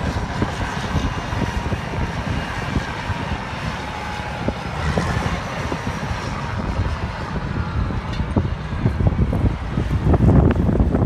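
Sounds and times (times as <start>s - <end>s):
heavy diesel engines rumbling: 0.0s - 11.0s.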